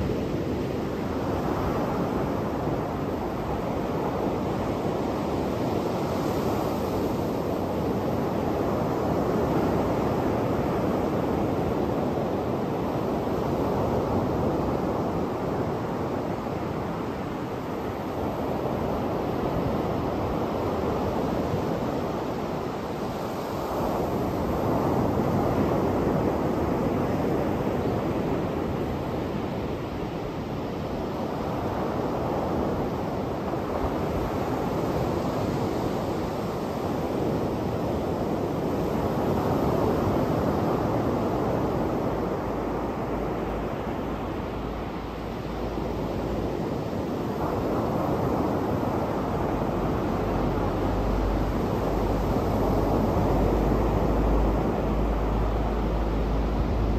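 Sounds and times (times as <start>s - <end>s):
ocean surf on a beach: 0.0s - 56.9s.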